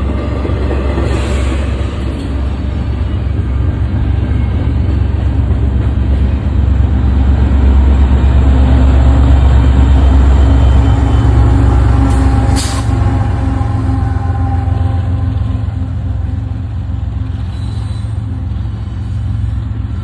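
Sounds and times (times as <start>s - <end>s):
train passing with low rumble: 0.0s - 20.0s.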